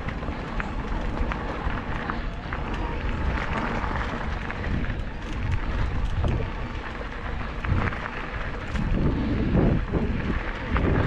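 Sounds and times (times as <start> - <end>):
bike clicking and rattling: 0.0 - 11.0
tyres rushing on dirt: 0.0 - 11.0.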